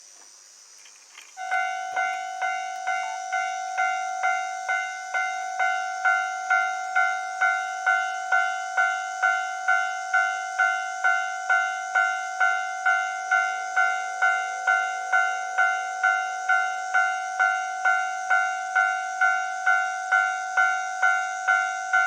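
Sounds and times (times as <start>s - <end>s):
level crossing warning bell: 1.4s - 22.0s.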